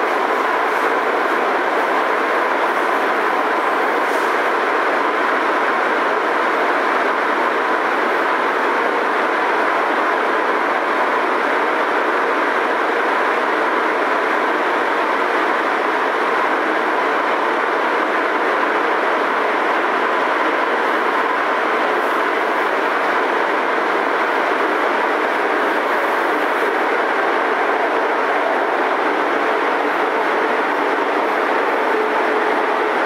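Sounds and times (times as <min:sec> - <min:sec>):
metro train rolling rumble: 0:00.0 - 0:33.0.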